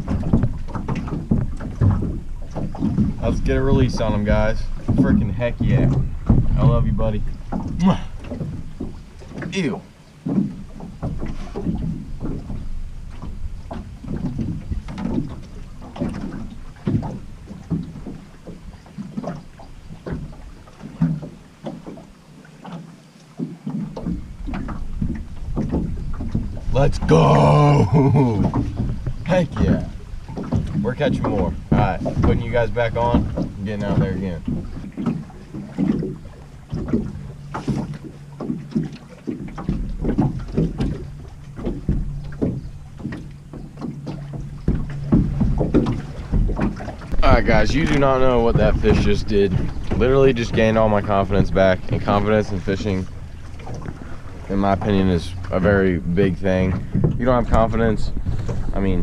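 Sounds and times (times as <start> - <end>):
wind rumbling on microphone: 0.0 - 22.0, 23.4 - 59.0
small waves slapping metal hull: 0.0 - 59.0.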